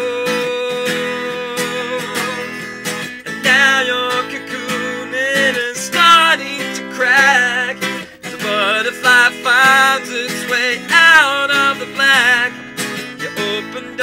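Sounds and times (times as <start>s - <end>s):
acoustic guitar strummed: 0.0s - 14.0s
man singing: 0.0s - 14.0s.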